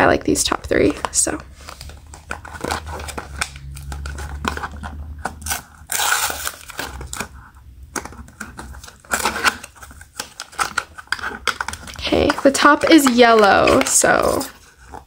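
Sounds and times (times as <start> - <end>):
cardboard tearing: 1.6 - 7.4, 8.3 - 15.0.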